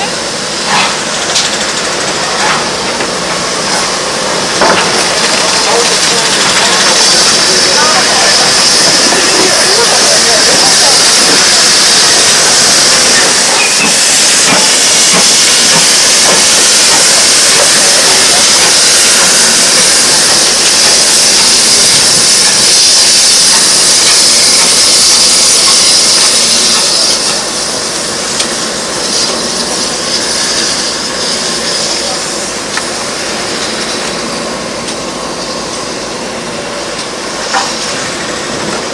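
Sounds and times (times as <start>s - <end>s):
steam locomotive hissing steam: 0.0s - 38.9s.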